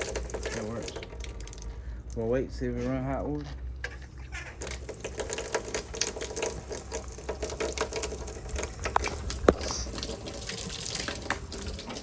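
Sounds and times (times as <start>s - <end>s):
faucet sputtering: 0.0s - 2.3s, 4.6s - 12.0s.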